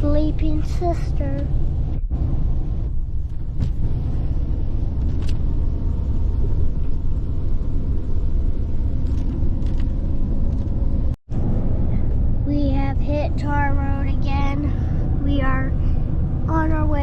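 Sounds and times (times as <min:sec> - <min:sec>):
vehicle cabin road rumble: 0:00.0 - 0:17.0.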